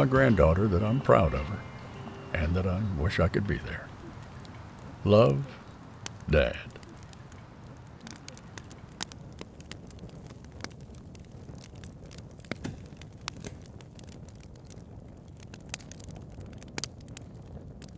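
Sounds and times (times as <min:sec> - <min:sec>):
low steady hiss: 0:00.0 - 0:17.8
crackling pops and clicks: 0:03.4 - 0:17.9.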